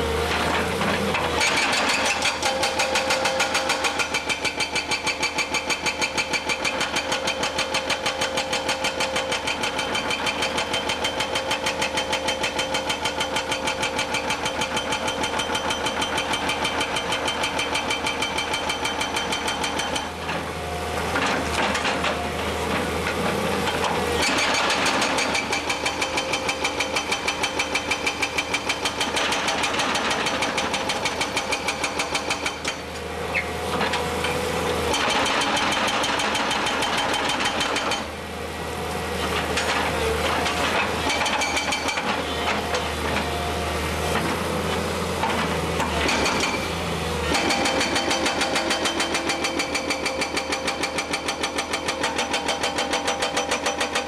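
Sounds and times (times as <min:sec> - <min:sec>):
hydraulic breaker hammering rock: 0:00.3 - 0:20.4, 0:21.1 - 0:38.2, 0:39.2 - 0:43.4, 0:44.1 - 0:54.0.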